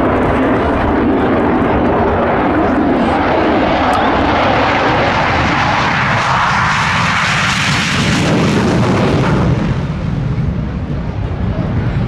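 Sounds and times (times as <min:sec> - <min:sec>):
fighter jet engines roaring past: 0:00.0 - 0:12.0.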